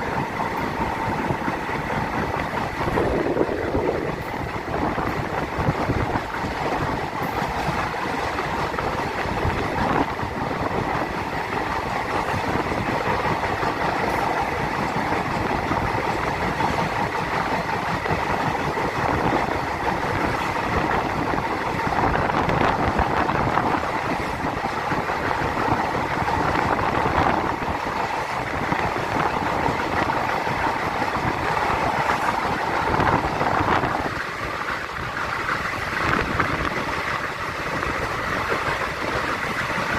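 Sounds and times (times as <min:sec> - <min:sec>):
passenger train rumbling: 0:00.0 - 0:39.9.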